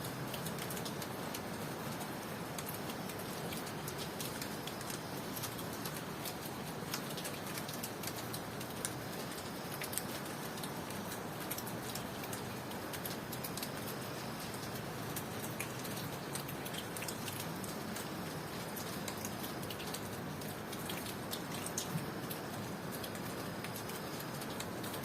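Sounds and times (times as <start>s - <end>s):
raindrops ticking: 0.0s - 25.0s
steady rain: 0.0s - 25.0s.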